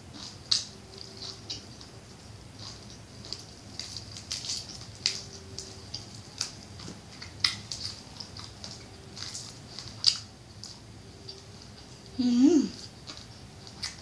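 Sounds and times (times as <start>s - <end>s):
crunching of crispy fried food: 0.0s - 12.2s, 12.8s - 14.0s.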